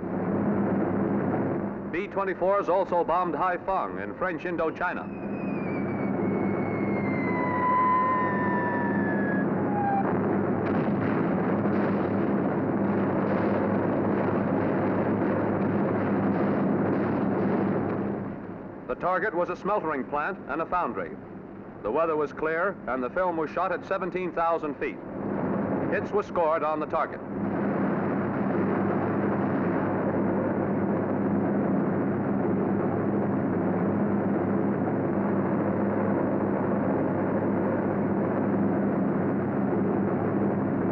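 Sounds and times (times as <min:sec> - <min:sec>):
piston aircraft engines droning: 0:00.0 - 0:40.9.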